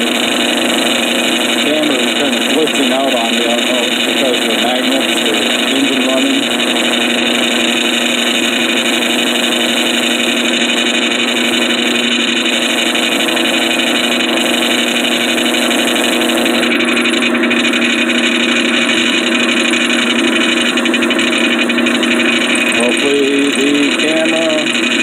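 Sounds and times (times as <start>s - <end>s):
sawmill engine droning: 0.0s - 25.0s.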